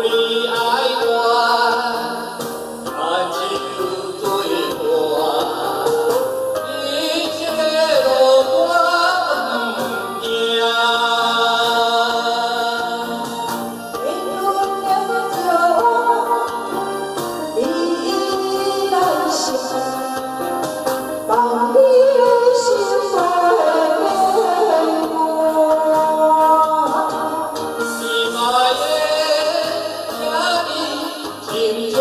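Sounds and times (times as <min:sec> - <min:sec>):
man singing: 0:00.0 - 0:16.6, 0:17.5 - 0:32.0
karaoke backing track: 0:00.0 - 0:32.0
woman singing: 0:00.0 - 0:32.0.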